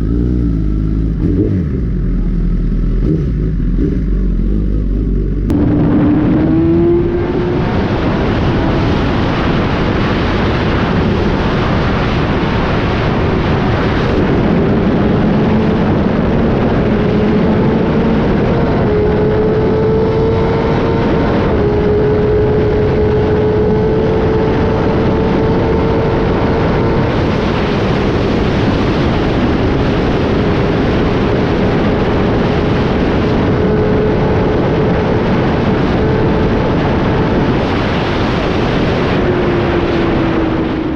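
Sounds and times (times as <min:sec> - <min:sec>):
motorcycle engine cruising: 0:00.0 - 0:40.9
wind rush on microphone: 0:00.0 - 0:40.9.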